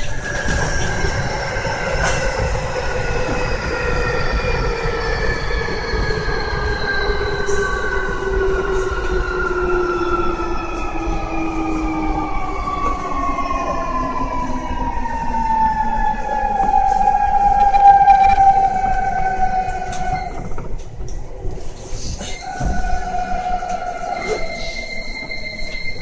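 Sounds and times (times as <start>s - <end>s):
wheel and rail rumble: 0.0s - 26.0s.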